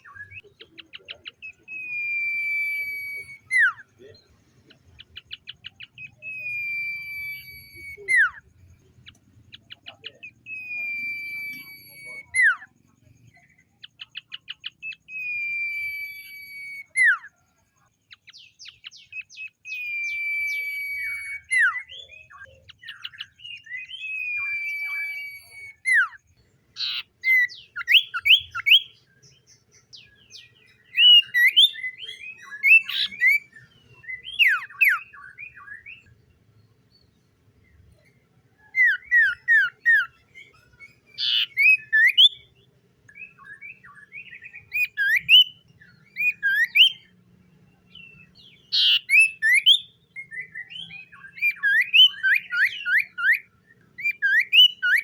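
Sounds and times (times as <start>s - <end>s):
bird singing whistles: 0.0s - 4.2s, 4.9s - 17.4s, 18.1s - 36.2s, 37.9s - 47.2s, 47.8s - 55.0s.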